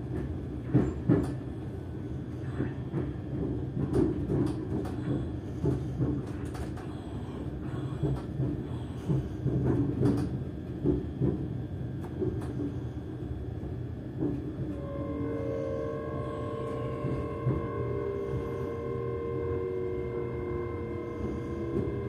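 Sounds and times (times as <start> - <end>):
train interior rumble and motor hum: 0.0 - 22.0.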